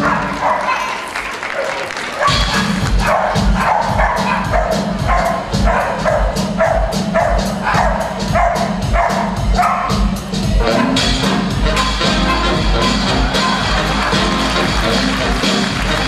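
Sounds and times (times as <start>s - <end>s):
upbeat show music: 1.4s - 16.0s.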